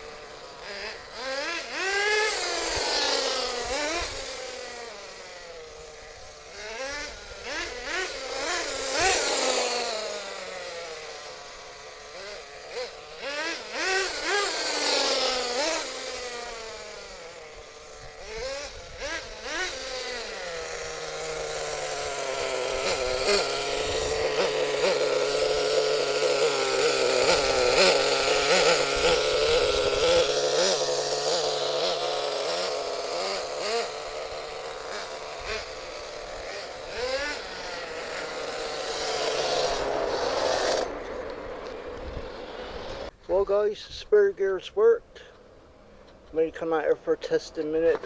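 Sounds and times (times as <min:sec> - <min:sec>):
small nitro engine revving: 0:00.0 - 0:43.6.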